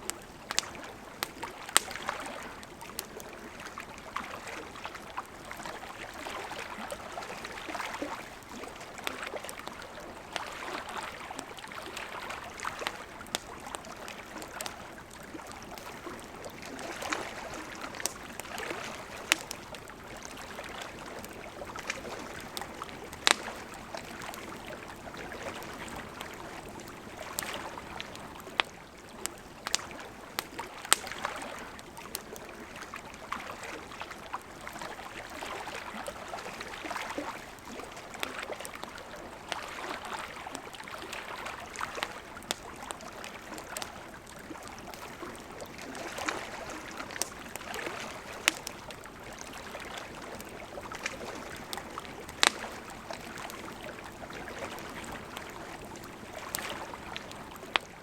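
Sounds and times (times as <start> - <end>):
campfire crackling and popping: 0.0 - 58.0
lake water lapping: 0.0 - 58.0.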